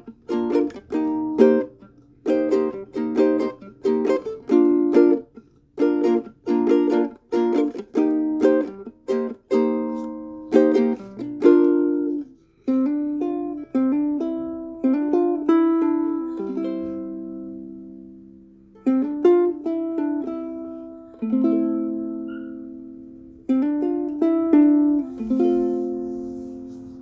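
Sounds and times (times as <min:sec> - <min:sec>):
ukulele strummed chords: 0:00.0 - 0:27.0.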